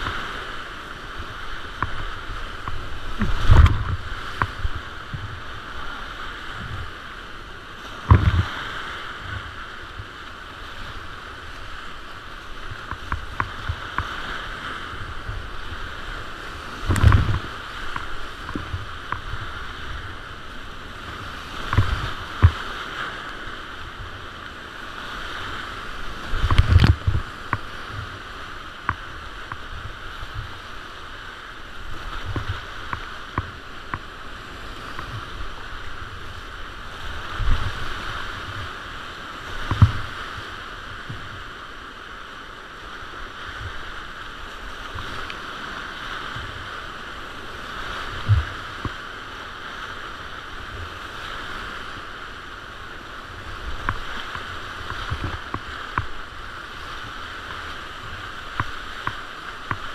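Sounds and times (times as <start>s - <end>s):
whitewater rushing: 0.0s - 59.9s.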